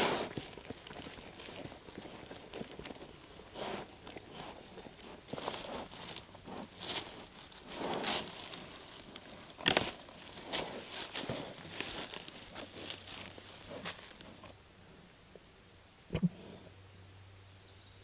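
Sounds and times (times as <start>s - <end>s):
rustling of dry leaves and twigs: 0.0s - 15.0s.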